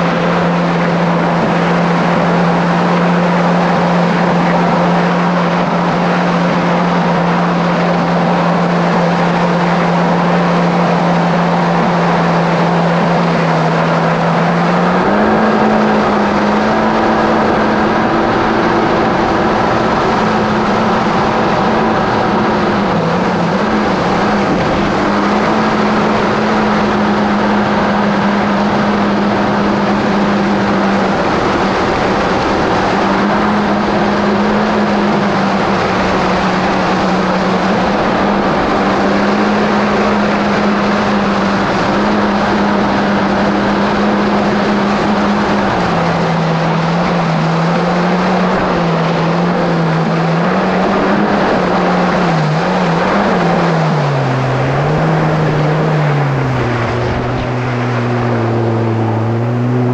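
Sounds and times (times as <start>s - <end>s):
jet ski engine running: 0.0s - 59.9s
rushing noise: 0.0s - 59.9s.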